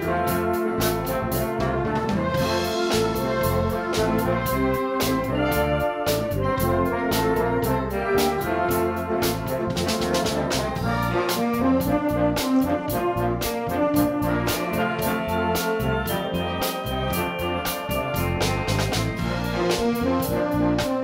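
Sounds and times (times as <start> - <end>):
brass and saxophones playing: 0.0 - 21.0
percussion beat: 0.0 - 21.0.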